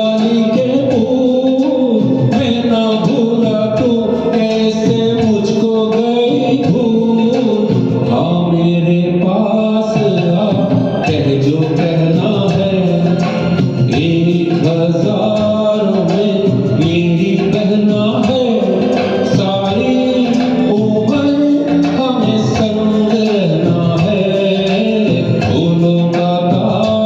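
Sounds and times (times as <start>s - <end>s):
karaoke backing track: 0.0s - 27.0s
man singing: 0.0s - 27.0s.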